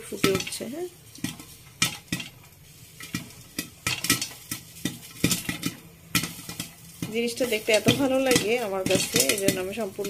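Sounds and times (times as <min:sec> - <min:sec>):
oil sizzling: 0:00.0 - 0:10.0
popcorn popping: 0:00.0 - 0:10.0.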